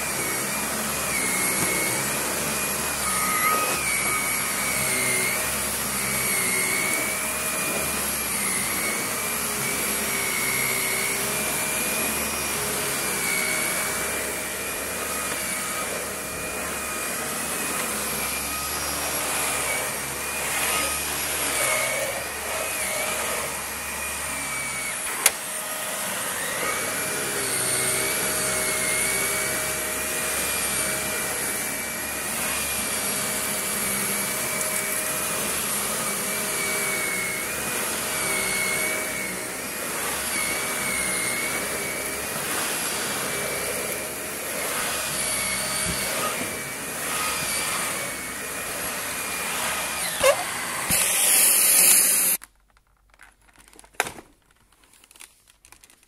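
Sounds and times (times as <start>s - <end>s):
vacuum cleaner motor whine: 0.0s - 52.4s.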